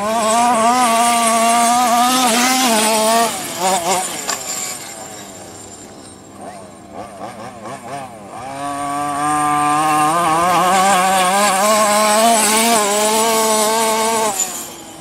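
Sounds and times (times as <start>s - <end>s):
small two-stroke engine at full throttle: 0.0s - 15.0s.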